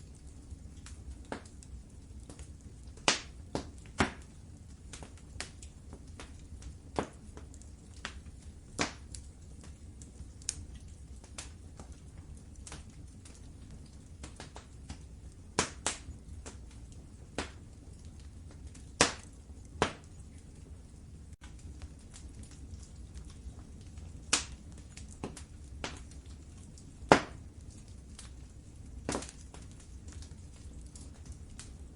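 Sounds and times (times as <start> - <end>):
low rumble of flames: 0.0 - 31.9
wood fire pops and snaps: 0.0 - 31.9.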